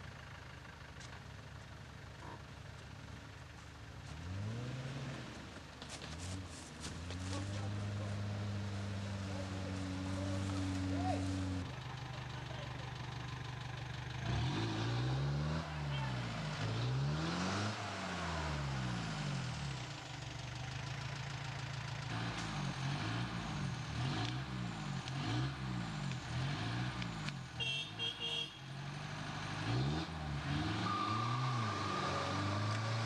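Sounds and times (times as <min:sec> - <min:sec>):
off-road vehicle engine revving: 0:04.0 - 0:13.0, 0:13.7 - 0:33.0.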